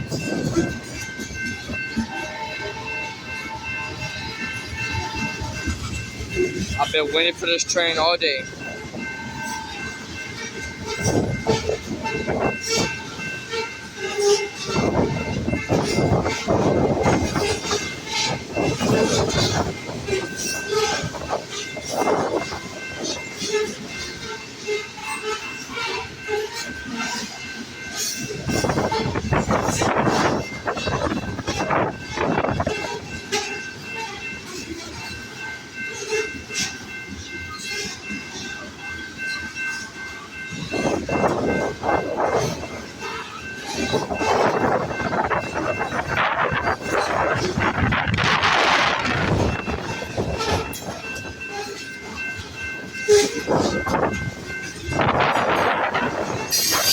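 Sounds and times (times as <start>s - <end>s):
steady train rumble: 0.0s - 56.9s.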